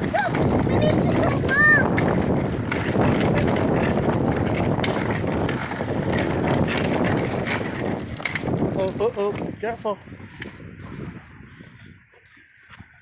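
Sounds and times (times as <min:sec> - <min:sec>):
bicycle rolling noise: 0:00.0 - 0:13.0
wind rumble: 0:00.0 - 0:13.0.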